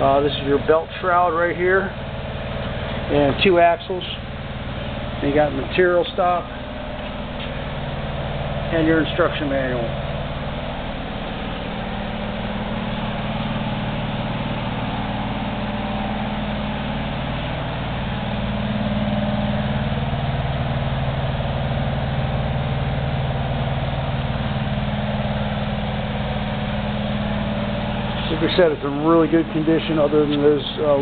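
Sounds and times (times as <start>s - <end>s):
machinery droning: 0.0s - 31.0s.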